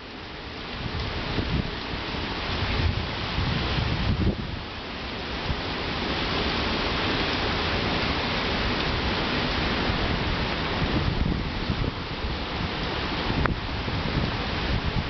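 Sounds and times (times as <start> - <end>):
heavy rain and wind: 0.0 - 15.0
wind buffeting microphone: 0.7 - 15.0.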